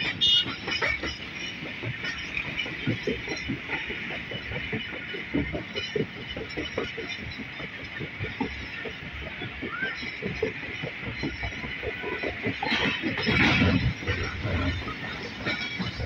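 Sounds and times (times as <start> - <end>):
knocks and rattles: 0.0 - 16.0
train rolling on track: 0.0 - 16.0.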